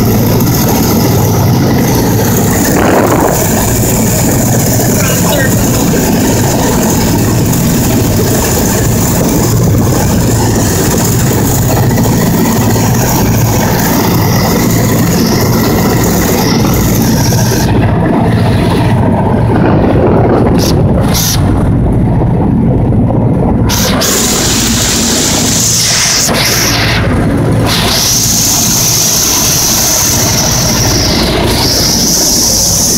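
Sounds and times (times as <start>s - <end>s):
propeller plane engines droning: 0.0s - 32.9s.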